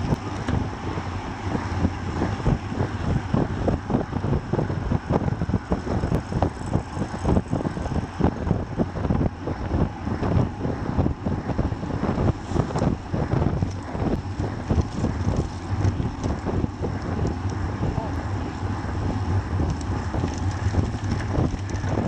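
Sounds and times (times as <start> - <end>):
bike tyres humming on asphalt: 0.0 - 22.0
wind buffeting microphone: 0.0 - 22.0.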